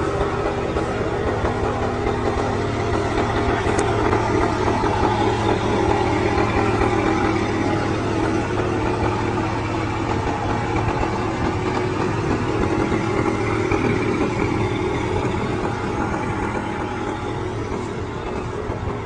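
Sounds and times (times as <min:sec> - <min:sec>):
combine harvester diesel engine running: 0:00.0 - 0:19.0.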